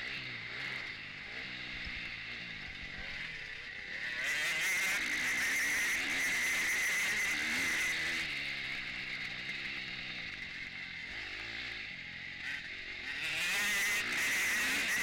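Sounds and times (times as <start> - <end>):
motocross engine revving: 0.0 - 15.0.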